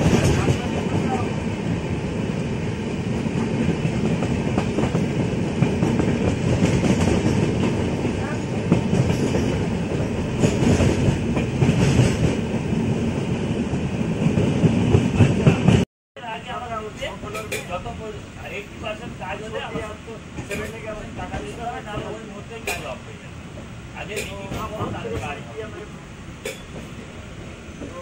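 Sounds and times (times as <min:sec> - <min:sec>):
train rumble and rattle: 0:00.0 - 0:28.0.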